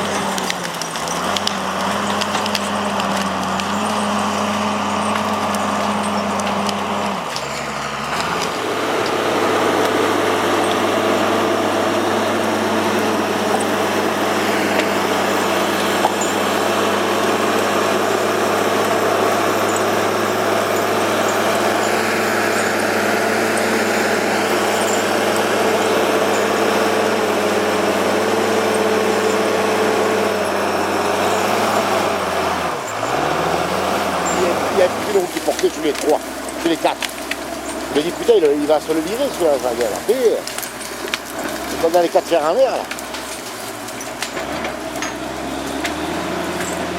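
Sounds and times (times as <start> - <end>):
diesel engine running hard: 0.0 - 46.9.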